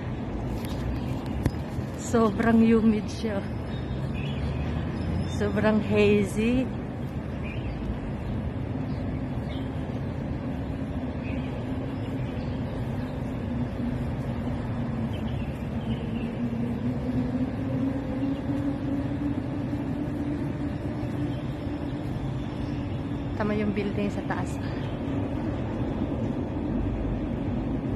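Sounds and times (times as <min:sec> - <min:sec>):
city traffic hum: 0:00.0 - 0:27.9.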